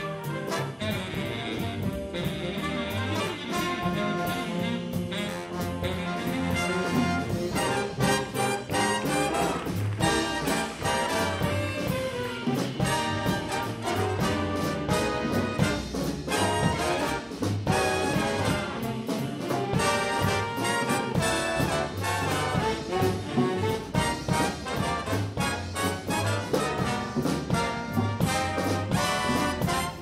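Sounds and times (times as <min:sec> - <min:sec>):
big band jazz: 0:00.0 - 0:30.0.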